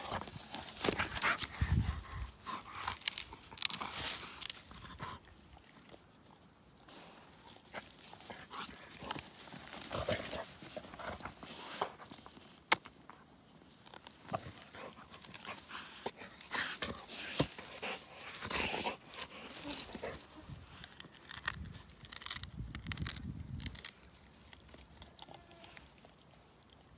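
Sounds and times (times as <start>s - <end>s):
rustling in long grass: 0.0s - 12.6s, 13.6s - 25.0s.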